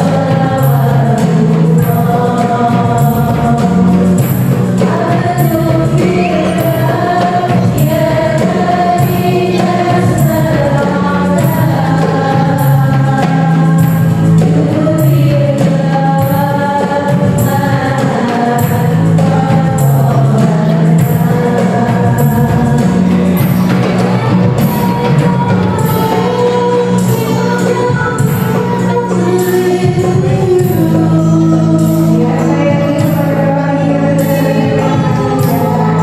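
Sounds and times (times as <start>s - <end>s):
keyboard accompaniment: 0.0s - 36.0s
percussion beat: 0.0s - 36.0s
voices singing devotional song: 0.0s - 36.0s.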